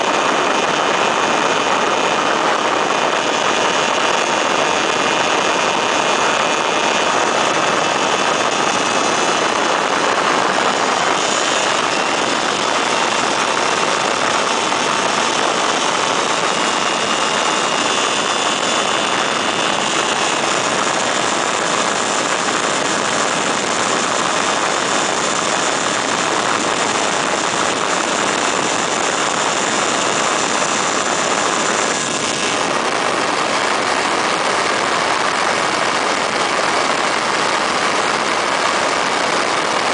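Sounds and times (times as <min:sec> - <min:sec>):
heavy wind rush: 0:00.0 - 0:39.9
ultralight engine and propeller: 0:00.0 - 0:39.9.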